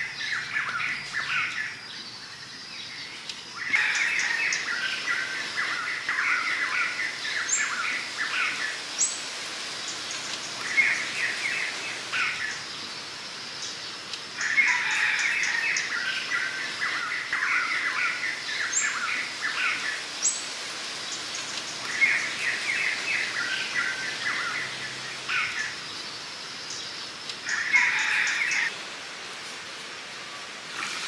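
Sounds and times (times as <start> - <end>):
birds chirping song: 0.0 - 28.7.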